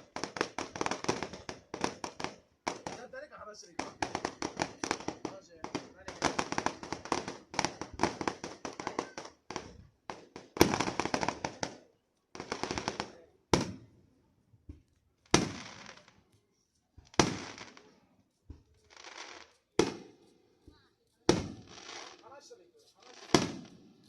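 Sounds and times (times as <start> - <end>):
fireworks sharp bangs: 0.0 - 13.9, 14.6 - 16.1, 17.0 - 24.0
fireworks crackling pops: 0.0 - 14.0, 14.6 - 24.0.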